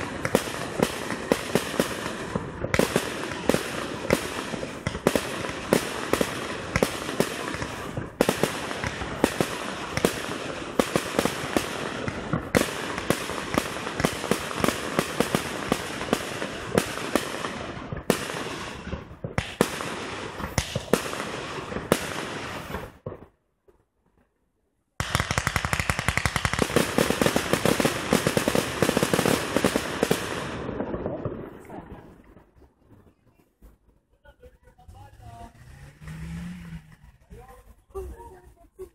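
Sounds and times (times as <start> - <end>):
fireworks bangs and crackling: 0.0 - 24.3, 25.0 - 38.9.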